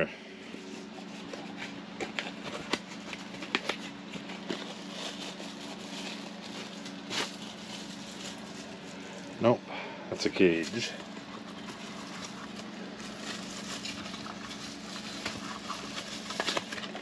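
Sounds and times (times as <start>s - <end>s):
fan heater humming: 0.0s - 17.0s.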